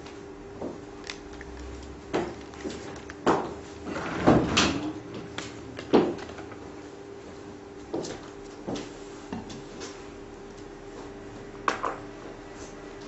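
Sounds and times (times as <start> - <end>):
projector humming: 0.0 - 13.0.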